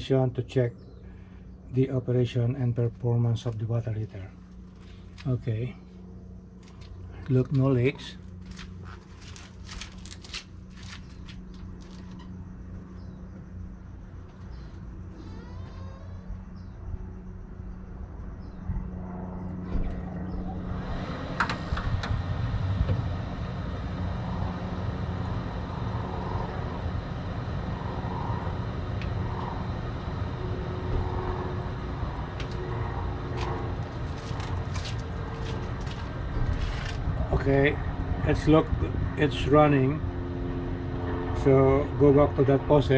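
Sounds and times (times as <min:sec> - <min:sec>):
gas water heater humming: 0:00.0 - 0:15.1, 0:19.8 - 0:42.9.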